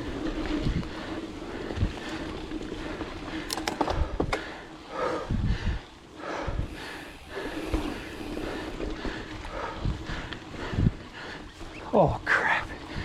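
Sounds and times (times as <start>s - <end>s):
wind rumble on microphone: 0.0s - 13.0s
person breathing hard: 0.6s - 11.6s.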